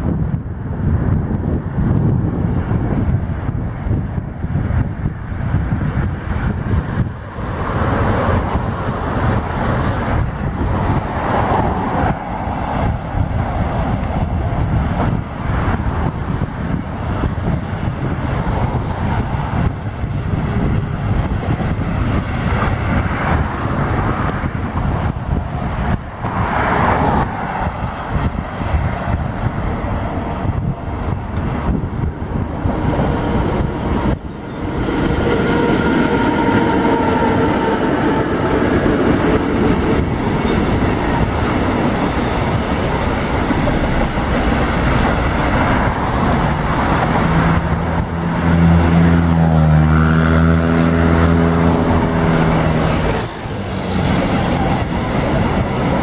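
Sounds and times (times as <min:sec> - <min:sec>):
cars passing: 0:00.0 - 0:56.0
electric freight train passing: 0:00.0 - 0:56.0
train whine: 0:00.0 - 0:56.0.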